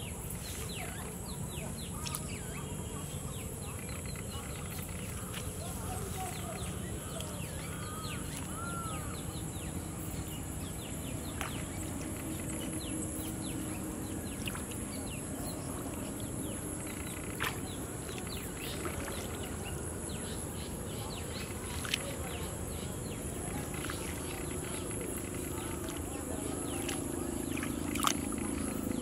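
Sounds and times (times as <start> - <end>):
bird calls chirping: 0.0 - 29.0
low steady rumble: 0.0 - 29.0.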